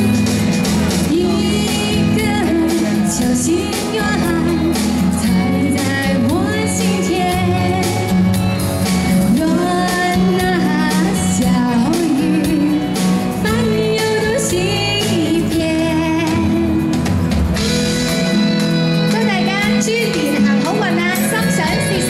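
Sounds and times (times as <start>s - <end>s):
instrumental backing music: 0.0s - 22.0s
woman singing: 1.0s - 8.4s, 9.1s - 17.1s, 19.1s - 22.0s.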